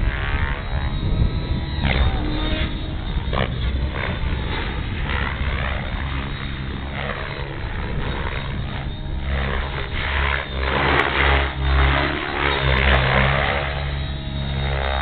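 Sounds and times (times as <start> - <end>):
rc helicopter rotor and motor: 0.0 - 15.0.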